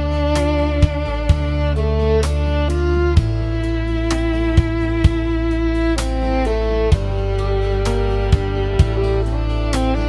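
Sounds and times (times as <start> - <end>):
low bass: 0.0 - 10.0
slow violin-like melody: 0.0 - 10.0
soft beat: 0.0 - 10.0.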